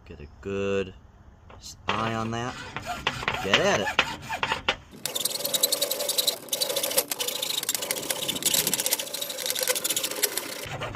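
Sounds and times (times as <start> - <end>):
hand saw cutting plastic pipe: 1.9 - 10.9.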